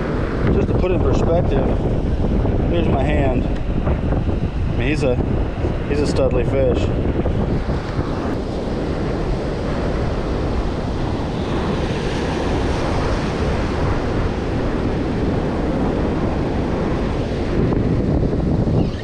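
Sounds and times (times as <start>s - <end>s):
ocean surf breaking on beach: 0.0s - 19.0s
wind buffeting microphone: 0.0s - 19.0s.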